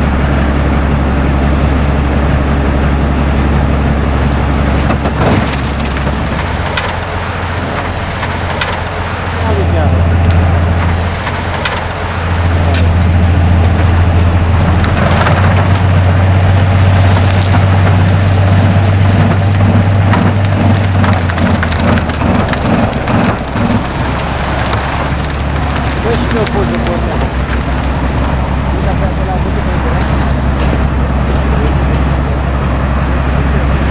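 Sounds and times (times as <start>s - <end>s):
snow blower machine drone: 0.0s - 33.9s.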